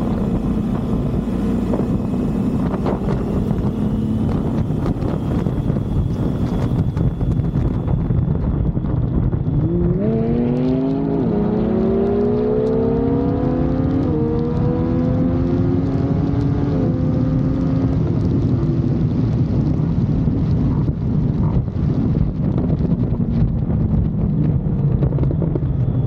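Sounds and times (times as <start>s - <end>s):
vehicle engine accelerating: 0.0s - 26.0s
wind rush: 0.0s - 26.0s.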